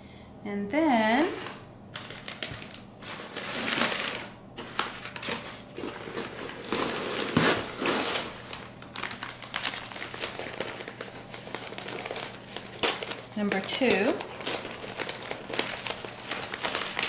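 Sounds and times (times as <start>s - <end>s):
shredded paper rustling: 1.3s - 17.0s.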